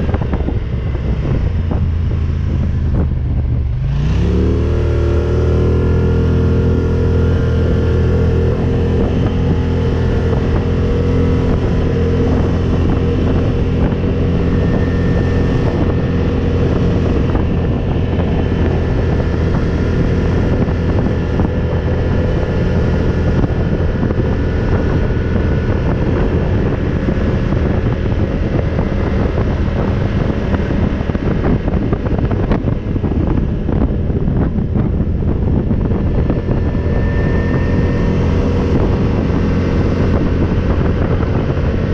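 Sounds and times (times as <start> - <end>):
atv engine running: 0.0 - 41.9
wind buffeting microphone: 0.0 - 41.9.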